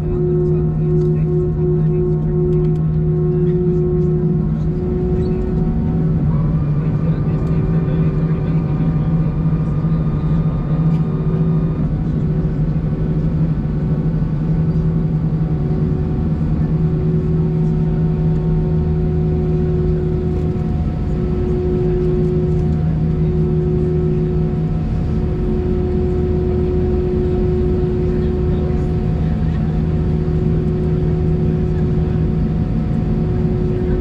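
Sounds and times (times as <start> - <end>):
idling jet engines drone: 0.0 - 34.0
intermittent steady hum: 0.0 - 34.0.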